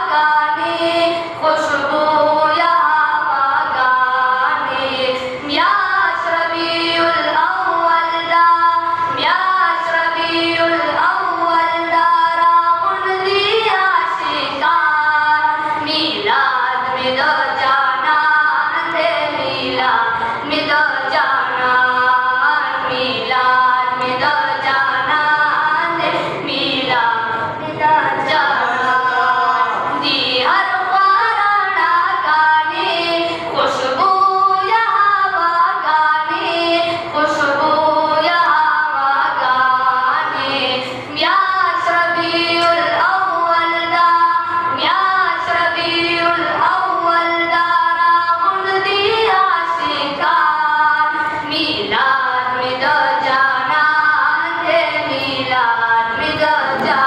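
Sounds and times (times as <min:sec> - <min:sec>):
person singing unaccompanied: 0:00.0 - 0:57.0.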